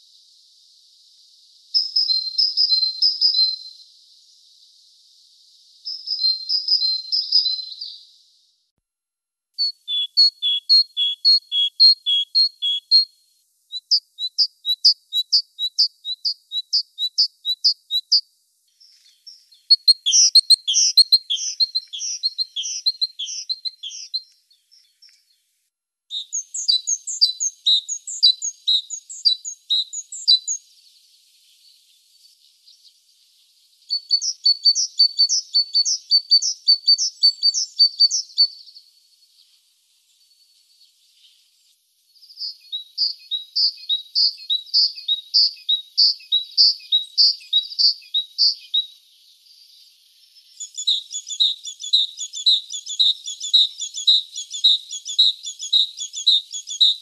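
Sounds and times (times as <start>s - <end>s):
bird singing high repeated notes: 1.7s - 4.4s, 5.7s - 8.2s, 9.6s - 18.2s, 19.0s - 24.3s, 26.1s - 32.8s, 33.8s - 38.9s, 42.2s - 57.0s.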